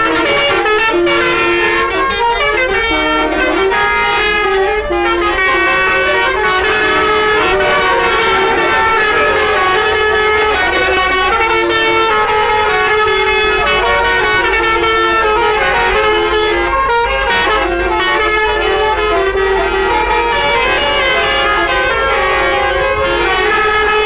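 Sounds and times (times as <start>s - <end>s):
multi-trumpet air horn tune: 0.0s - 24.0s.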